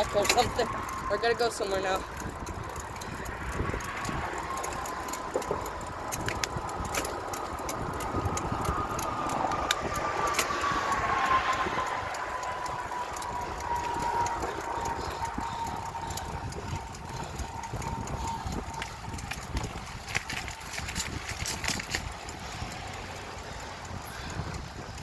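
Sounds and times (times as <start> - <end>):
bicycle rattling clicks: 0.0 - 25.0
bicycle rolling noise: 0.0 - 25.0.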